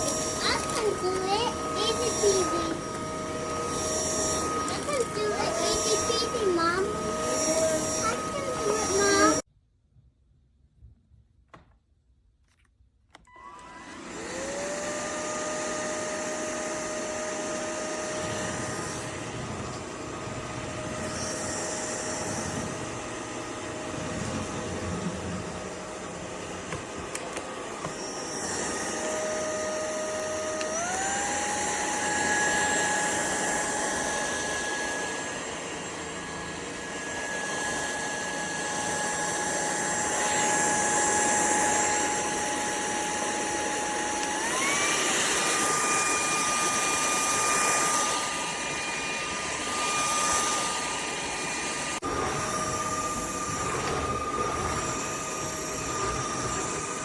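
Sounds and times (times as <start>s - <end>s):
vacuum motor whine: 0.0s - 9.5s, 13.2s - 57.0s.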